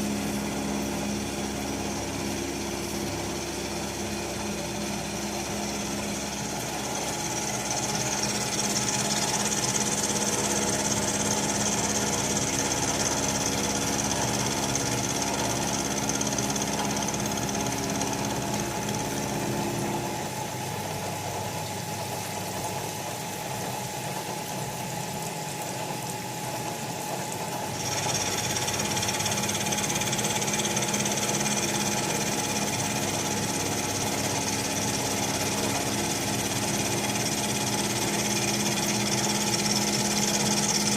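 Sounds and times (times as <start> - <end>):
milling machine humming and hissing: 0.0 - 40.9.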